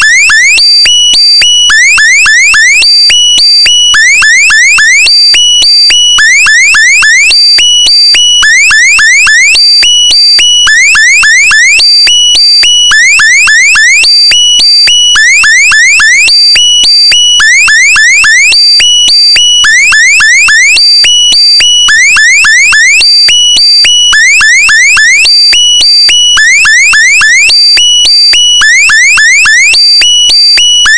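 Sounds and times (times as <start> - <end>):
electronic alarm chirps and beeps: 0.0 - 30.9.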